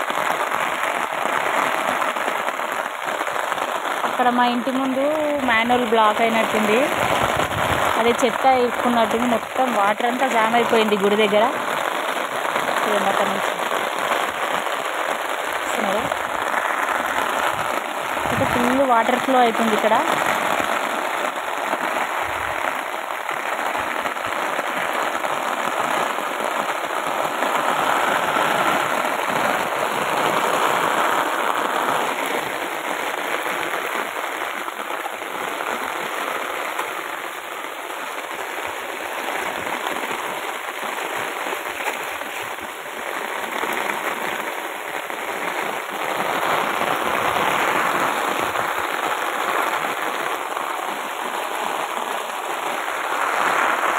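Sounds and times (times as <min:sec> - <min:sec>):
heavy rain on concrete: 0:00.0 - 0:53.9.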